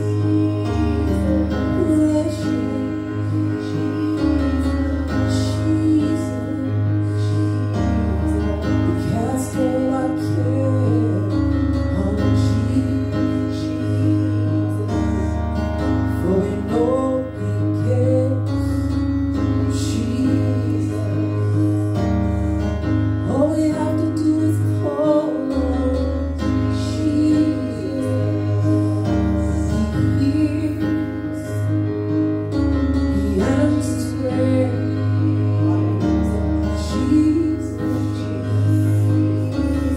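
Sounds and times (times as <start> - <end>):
women singing worship song: 0.0 - 15.6, 19.7 - 22.2, 23.3 - 31.7, 33.1 - 39.9
keyboard chords: 0.0 - 39.9.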